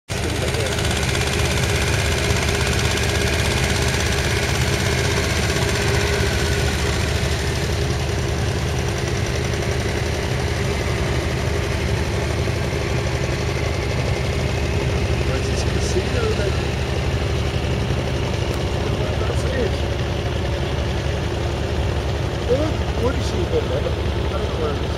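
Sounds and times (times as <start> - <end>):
boat engine chugging: 0.1 - 24.9.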